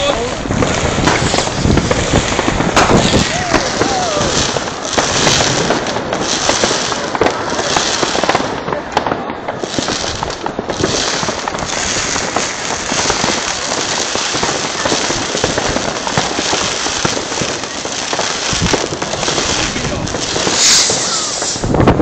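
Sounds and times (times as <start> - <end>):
firecrackers crackling: 0.0 - 22.0
loud firework burst: 0.0 - 22.0.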